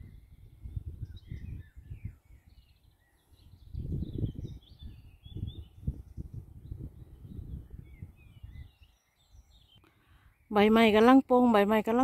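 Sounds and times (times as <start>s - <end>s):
wind buffeting microphone: 0.0s - 9.7s
songbirds chirping and trilling: 0.0s - 12.0s.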